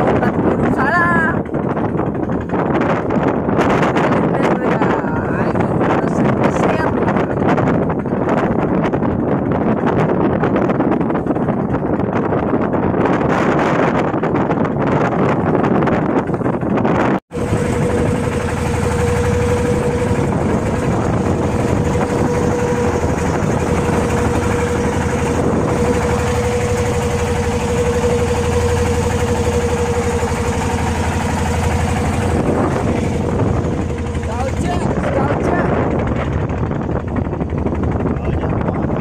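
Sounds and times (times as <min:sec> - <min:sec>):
boat engine running: 0:00.0 - 0:39.0
sea noise: 0:00.0 - 0:39.0
wind: 0:00.0 - 0:39.0.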